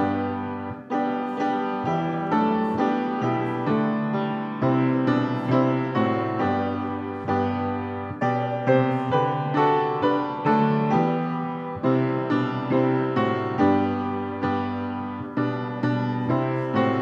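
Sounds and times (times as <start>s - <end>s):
piano playing hymn chords: 0.0s - 17.0s.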